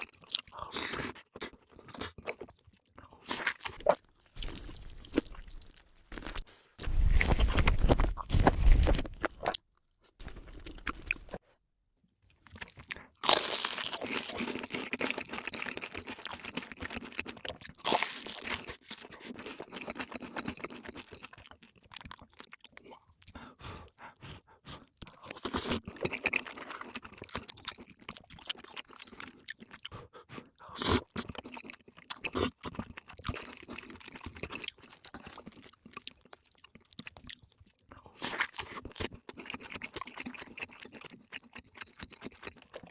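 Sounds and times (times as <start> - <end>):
crunching bites and chewing: 0.0 - 11.4, 12.4 - 42.9.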